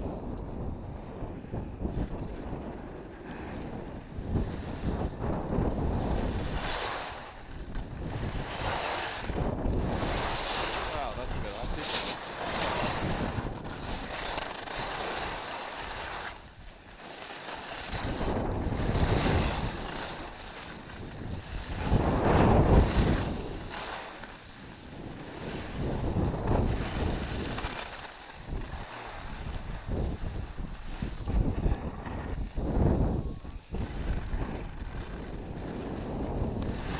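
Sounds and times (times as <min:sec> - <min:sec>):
skis scraping over snow: 0:00.0 - 0:36.9
wind rumbling on microphone: 0:00.0 - 0:36.9.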